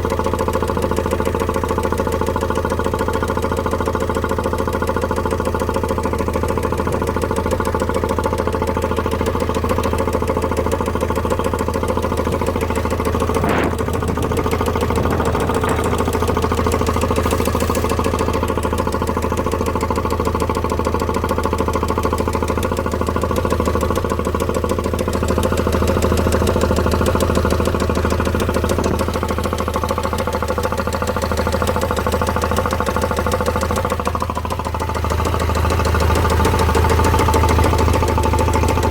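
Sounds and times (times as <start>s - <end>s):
diesel engine idling with knock: 0.0s - 38.9s.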